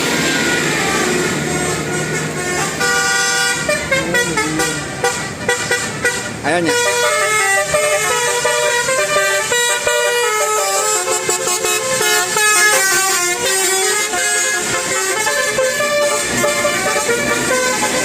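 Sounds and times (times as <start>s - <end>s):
multi-tone air horn melody: 0.0s - 18.0s.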